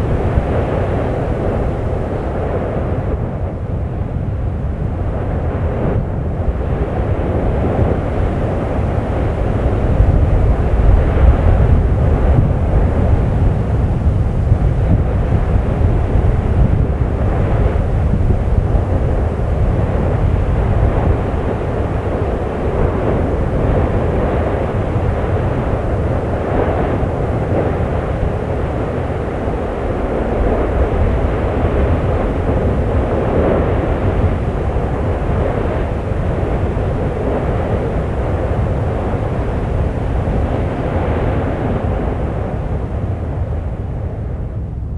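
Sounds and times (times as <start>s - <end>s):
volcano rumbling: 0.0s - 44.9s.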